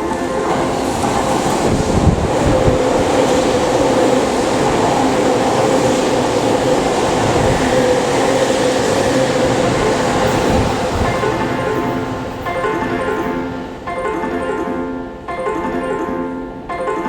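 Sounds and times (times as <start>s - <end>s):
piano-like melody: 0.0s - 17.0s
train passing through station: 0.0s - 17.0s.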